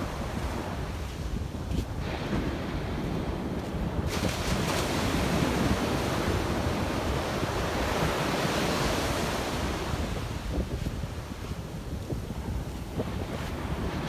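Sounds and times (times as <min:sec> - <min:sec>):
surf breaking on a beach: 0:00.0 - 0:14.0
wind rumble on microphone: 0:00.0 - 0:14.0.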